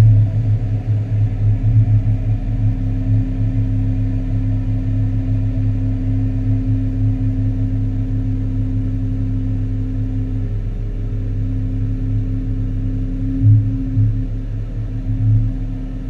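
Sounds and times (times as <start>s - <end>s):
diesel engine droning: 0.0s - 16.0s
steady hum: 0.0s - 16.0s.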